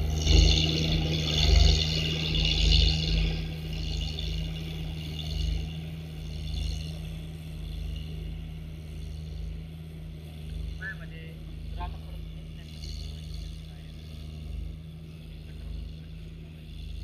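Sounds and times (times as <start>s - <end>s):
road roller engine running: 0.0s - 17.0s.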